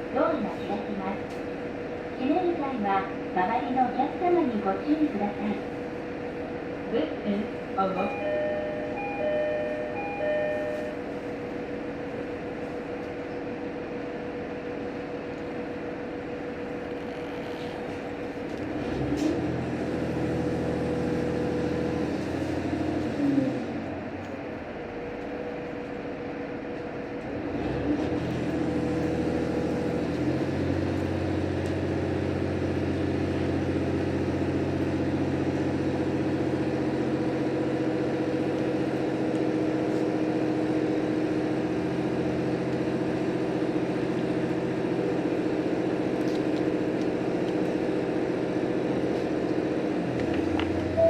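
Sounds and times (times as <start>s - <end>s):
diesel railcar engine: 0.0s - 51.0s.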